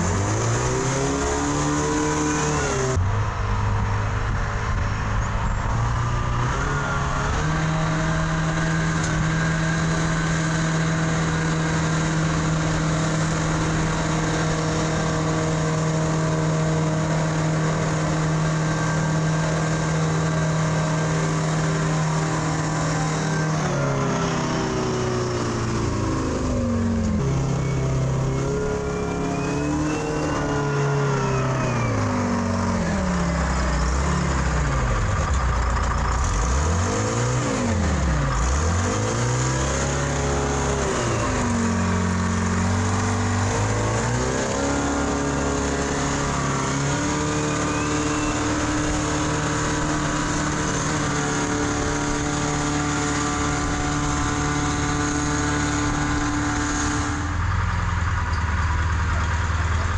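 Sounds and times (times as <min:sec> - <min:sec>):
wheel loader engine running: 0:00.0 - 0:59.9.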